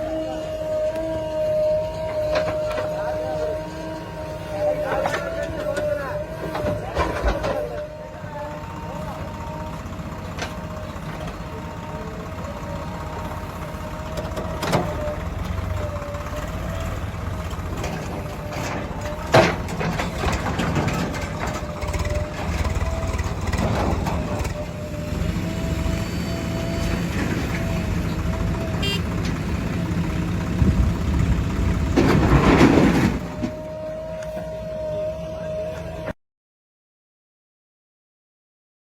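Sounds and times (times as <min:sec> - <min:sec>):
diesel engine running with whine: 0:00.0 - 0:36.2.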